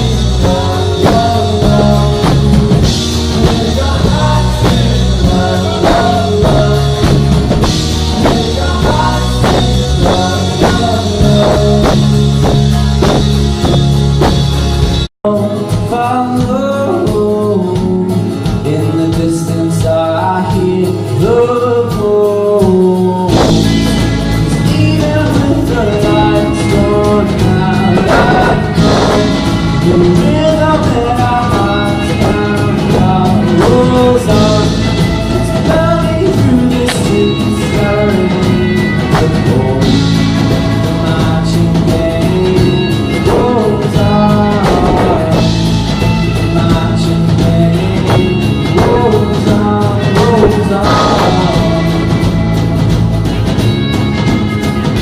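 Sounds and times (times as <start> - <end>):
person singing lead vocal: 0.0 - 13.9, 15.3 - 52.6
indie-folk band playing: 0.0 - 55.0.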